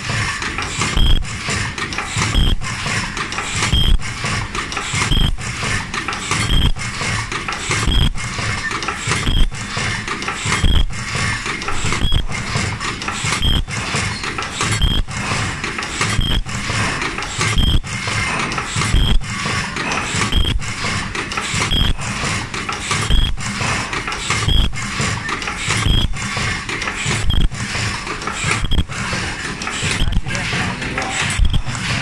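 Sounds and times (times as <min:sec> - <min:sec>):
machine mechanical clatter: 0:00.0 - 0:32.0.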